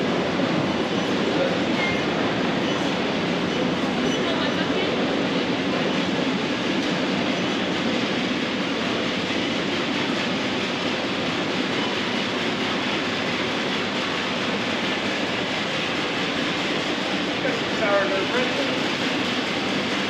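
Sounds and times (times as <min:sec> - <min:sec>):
shopping trolley wheels rumbling: 0:00.0 - 0:20.0.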